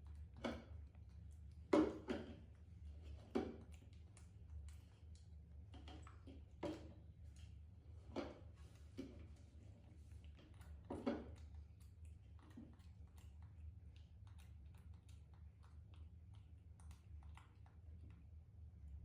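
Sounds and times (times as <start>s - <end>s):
faint small clicks and taps: 0.0s - 19.0s
low steady hum: 0.0s - 19.0s.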